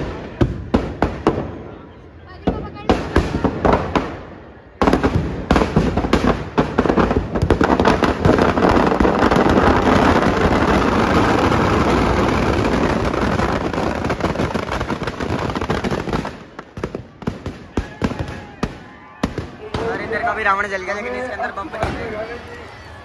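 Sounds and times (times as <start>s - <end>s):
firecrackers exploding: 0.0s - 1.8s, 2.4s - 22.5s.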